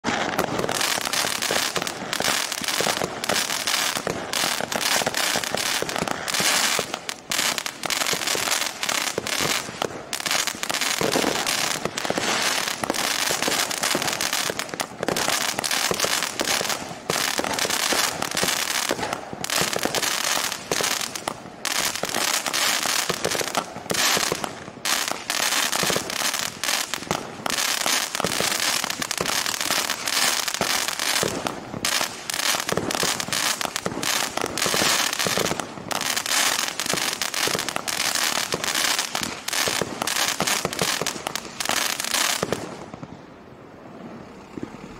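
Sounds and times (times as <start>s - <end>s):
firework battery launches and crackling: 0.0s - 43.2s.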